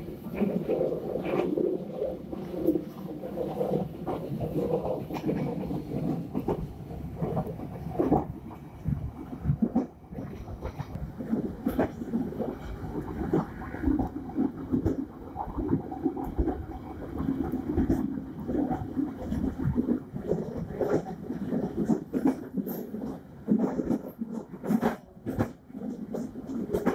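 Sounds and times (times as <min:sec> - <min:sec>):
train running on track: 0:00.0 - 0:26.9
clattering knocks of train wheels: 0:02.4 - 0:26.9.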